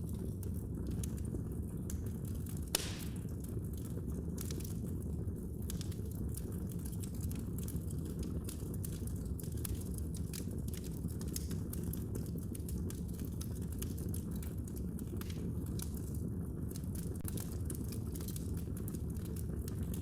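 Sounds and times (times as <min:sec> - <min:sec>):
fire crackles and pops: 0:00.0 - 0:20.0
fire flames rumbling: 0:00.0 - 0:20.0.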